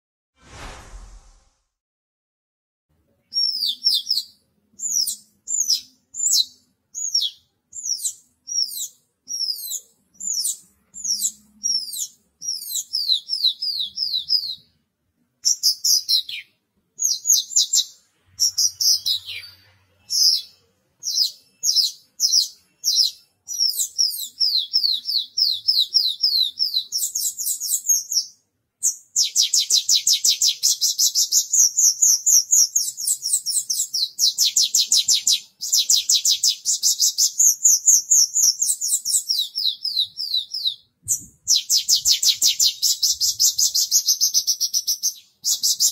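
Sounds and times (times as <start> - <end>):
bird singing whistles and trills: 3.3 - 14.7, 15.4 - 45.9.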